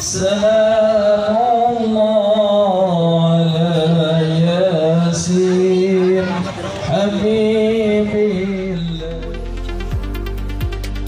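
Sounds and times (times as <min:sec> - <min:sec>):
person singing devotional song: 0:00.0 - 0:09.6.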